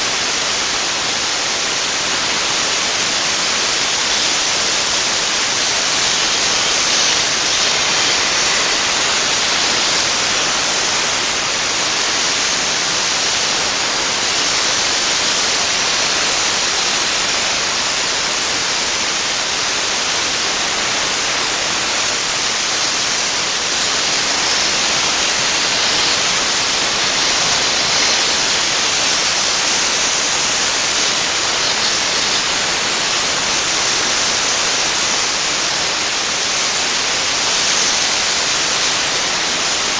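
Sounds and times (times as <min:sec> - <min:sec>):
dry-ice blasting gun hissing: 0:00.0 - 0:39.9.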